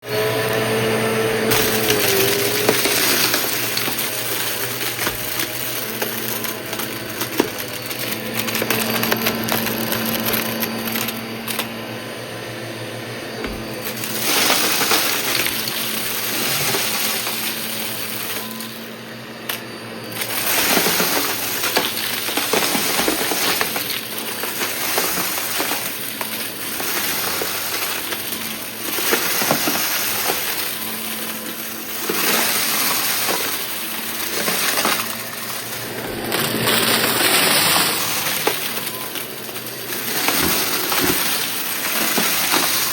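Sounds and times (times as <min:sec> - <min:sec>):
vacuum cleaner running: 0:00.0 - 0:42.9
debris crackling in vacuum: 0:00.1 - 0:11.8, 0:13.4 - 0:42.9.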